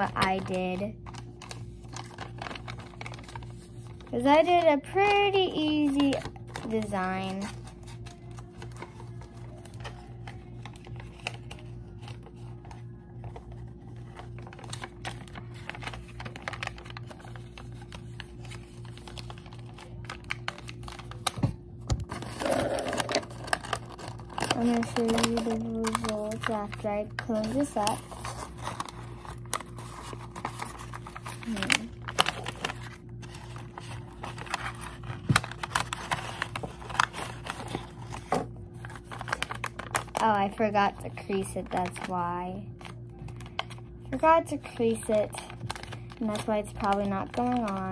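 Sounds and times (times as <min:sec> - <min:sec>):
low pulsing hum: 0:00.0 - 0:47.9
stiff paper rustling and clicking: 0:00.0 - 0:47.9.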